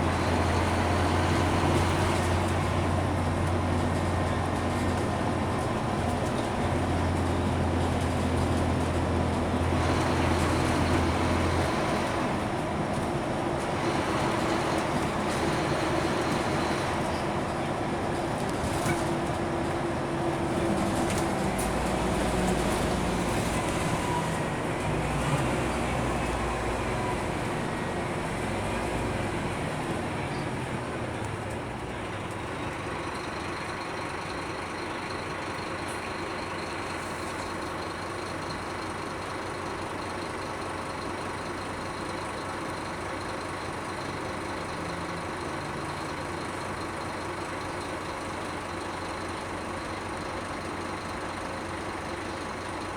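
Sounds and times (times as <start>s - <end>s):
bus engine: 0.0s - 52.9s.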